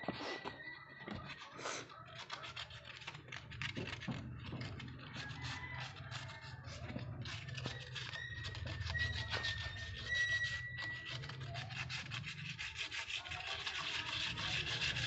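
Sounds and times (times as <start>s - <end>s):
trowel scraping cement: 0.0s - 15.0s.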